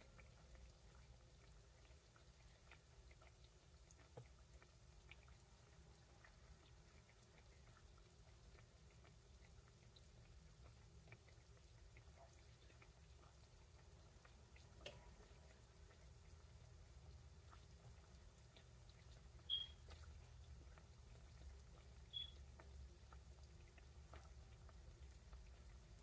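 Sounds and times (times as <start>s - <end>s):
donuts crackling in hot oil: 0.0s - 26.0s.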